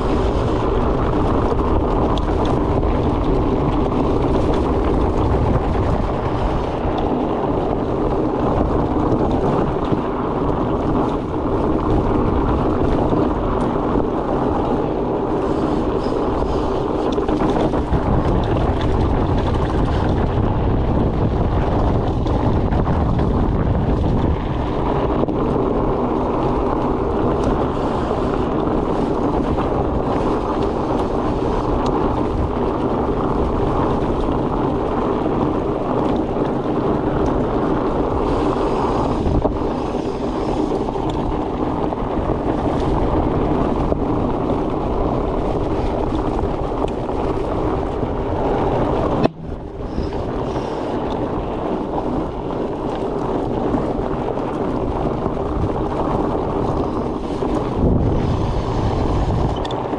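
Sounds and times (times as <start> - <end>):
bike tyres rolling on trail: 0.0 - 59.9
wind rushing over microphone: 0.0 - 59.9.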